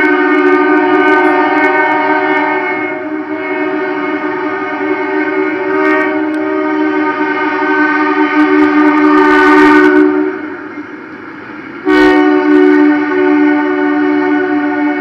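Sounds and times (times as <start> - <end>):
diesel locomotive horn: 0.0 - 10.9, 11.8 - 15.0.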